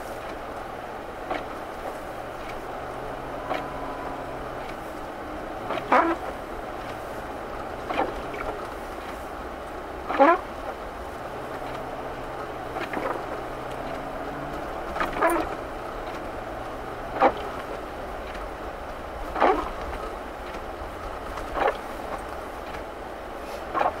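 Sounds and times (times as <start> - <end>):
engine and tyre hum: 0.0 - 24.0
windshield wipers squeaking: 0.0 - 24.0.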